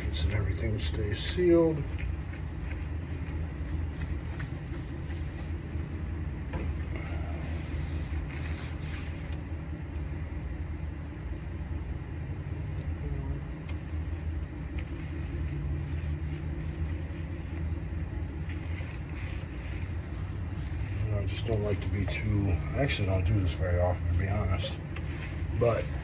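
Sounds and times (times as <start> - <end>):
constant hum: 0.0 - 26.0
low machinery rumble: 0.0 - 26.0.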